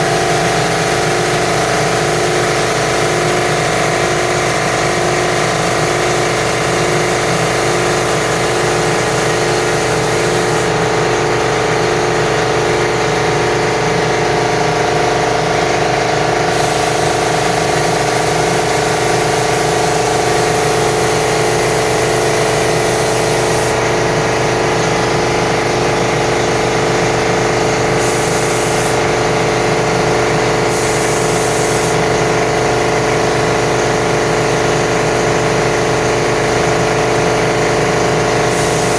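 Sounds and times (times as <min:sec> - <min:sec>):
paint sprayer motor humming: 0:00.0 - 0:38.9.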